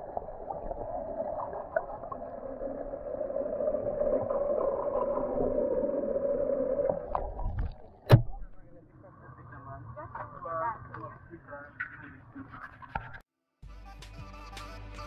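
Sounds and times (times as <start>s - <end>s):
muffled underwater hum: 0.0s - 13.2s.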